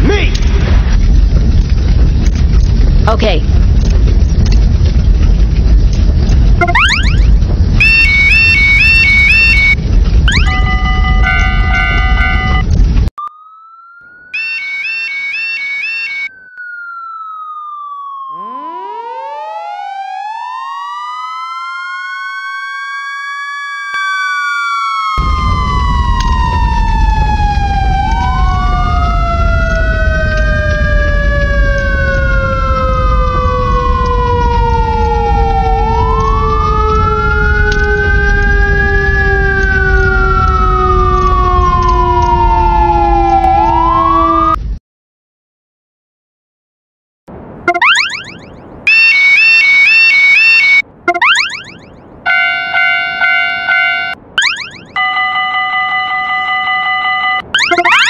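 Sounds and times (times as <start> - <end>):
fire engine siren wailing: 6.6 - 12.7, 13.3 - 44.7, 47.7 - 58.0.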